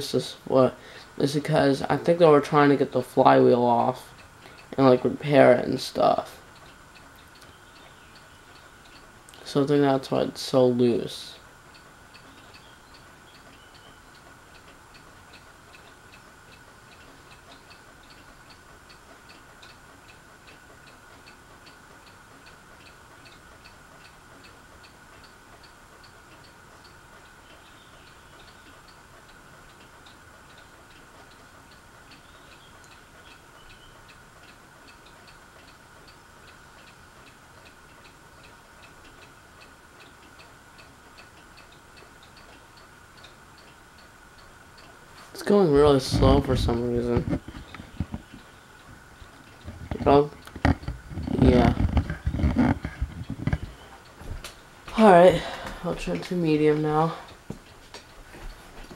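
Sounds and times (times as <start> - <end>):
ceiling fan humming: 0.0 - 58.9
fan ticking: 0.0 - 58.9.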